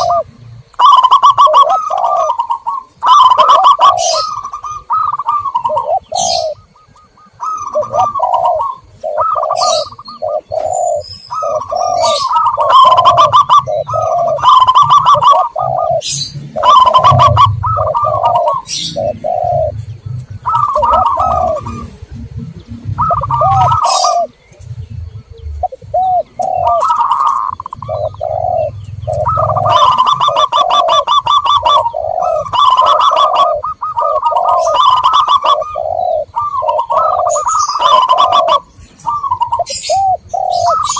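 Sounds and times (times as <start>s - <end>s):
doves cooing: 0.0s - 40.9s
rhythmic higher chirping: 0.0s - 40.9s.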